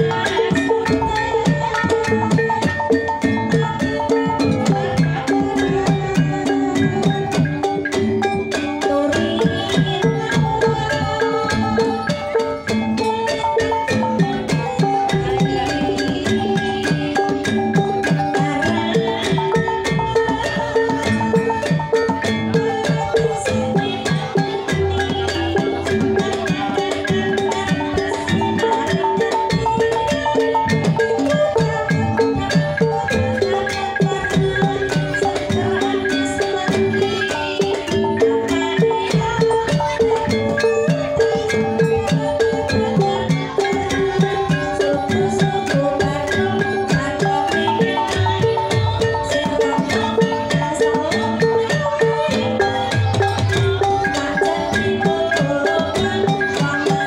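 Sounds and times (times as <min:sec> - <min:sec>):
hand drums: 0:00.0 - 0:57.0
ringing metallophones struck with mallets: 0:00.0 - 0:57.0.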